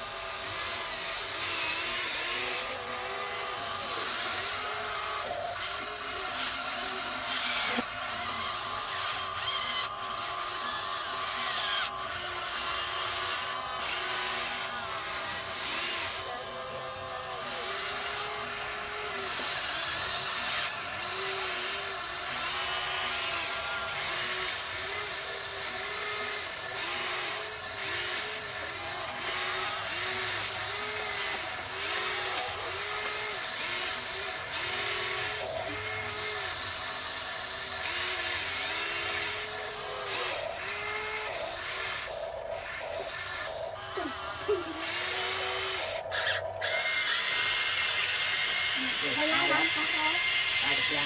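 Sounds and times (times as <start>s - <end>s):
electric motors whining in pulses: 0.0s - 51.0s.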